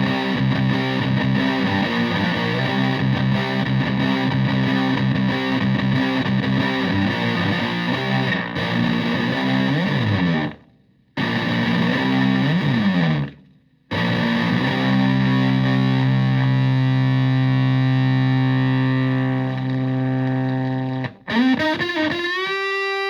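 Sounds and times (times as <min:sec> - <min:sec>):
fuzzed electric guitar riff: 0:00.0 - 0:23.0.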